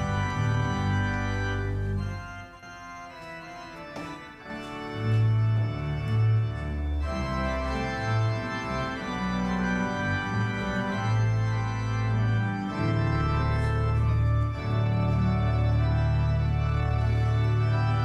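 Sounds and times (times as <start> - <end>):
church organ playing chords: 0.0 - 18.0.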